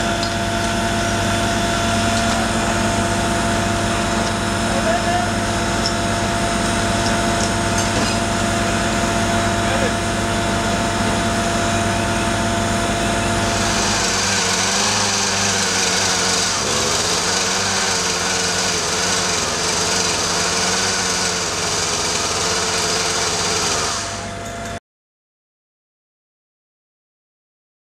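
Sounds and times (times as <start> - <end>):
deep engine drone: 0.0 - 24.8
small engine with wavering pitch: 0.0 - 24.8.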